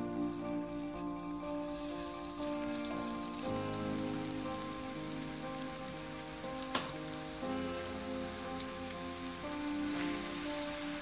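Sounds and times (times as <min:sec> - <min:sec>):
garlic sizzling in oil: 0:00.0 - 0:11.0
soft background music: 0:00.0 - 0:11.0.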